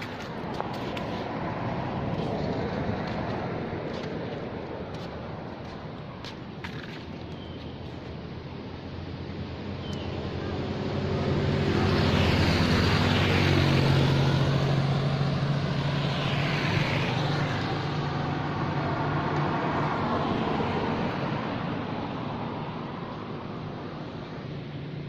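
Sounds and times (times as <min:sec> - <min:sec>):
motor vehicle passing: 0:00.0 - 0:25.0.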